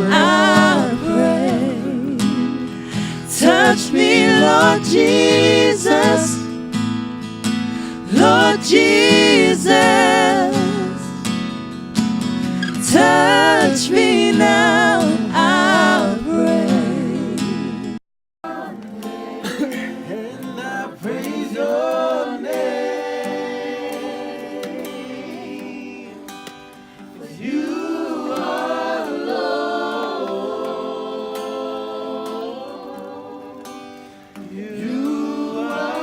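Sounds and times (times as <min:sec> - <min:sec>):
voices singing worship song: 0:00.0 - 0:11.6, 0:12.3 - 0:36.0
acoustic guitar: 0:00.0 - 0:36.0.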